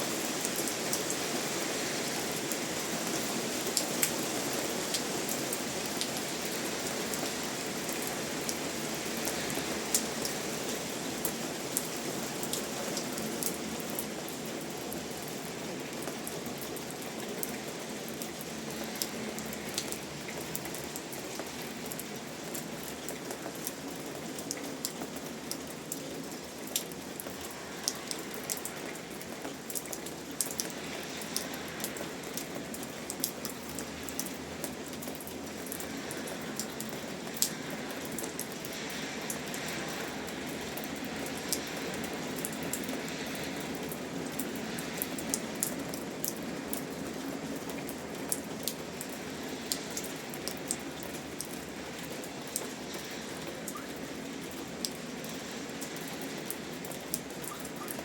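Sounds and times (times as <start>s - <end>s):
steady rain hiss: 0.0s - 58.0s
raindrops tapping a surface: 3.7s - 58.0s.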